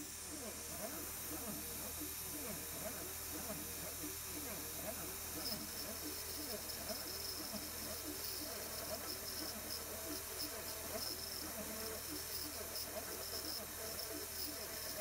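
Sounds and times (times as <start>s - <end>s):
high-pitched whine and hiss: 0.0s - 15.0s
milling machine motor whine: 0.0s - 15.0s.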